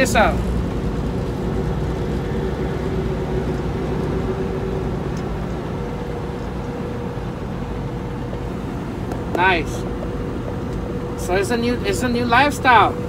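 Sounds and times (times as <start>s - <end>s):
faint steady hum: 0.0s - 13.0s
truck engine and road noise: 0.0s - 13.0s.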